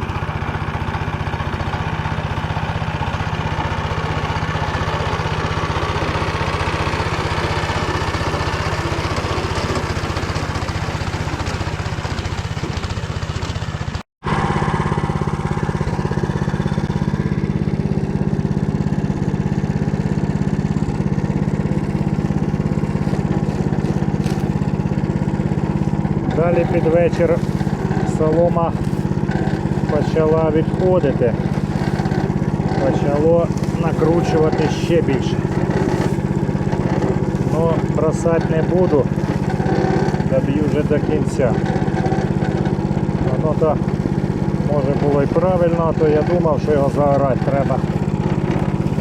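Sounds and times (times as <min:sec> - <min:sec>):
rotary tiller engine running: 0:00.0 - 0:49.0.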